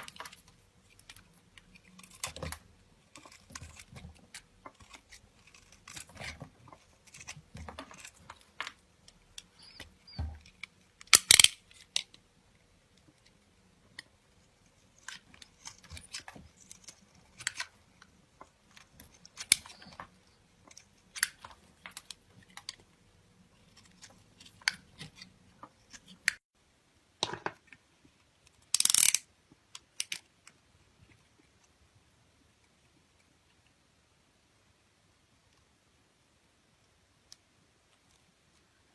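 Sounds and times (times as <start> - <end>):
handling clicks taps and scrapes: 0.0 - 26.5, 27.2 - 31.9.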